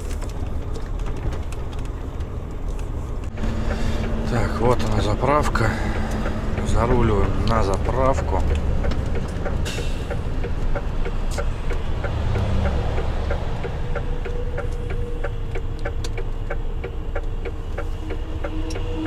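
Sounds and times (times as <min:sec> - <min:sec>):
diesel engine rumbling: 0:00.0 - 0:19.0
turn signal ticking: 0:00.0 - 0:19.0.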